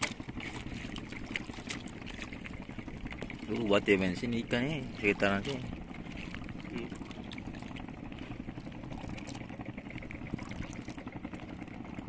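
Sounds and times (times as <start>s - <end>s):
small boat motor running: 0.0s - 12.0s
water splashing and trickling: 0.0s - 12.0s.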